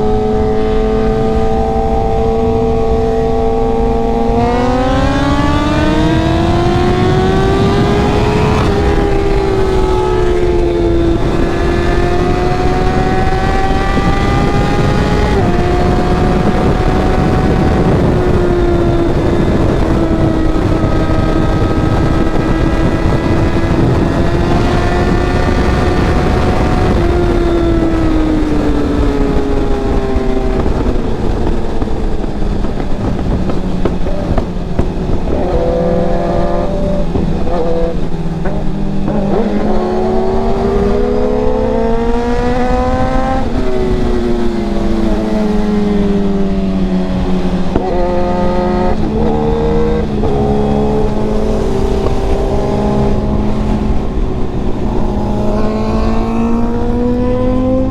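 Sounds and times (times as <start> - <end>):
motorcycle engine revving: 0.0 - 57.9
wind rush: 0.0 - 57.9.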